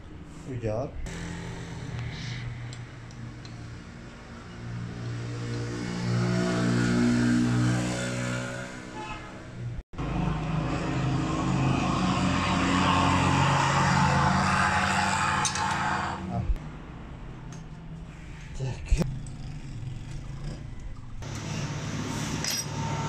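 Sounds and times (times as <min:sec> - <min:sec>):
vehicle engine droning: 0:01.1 - 0:23.0.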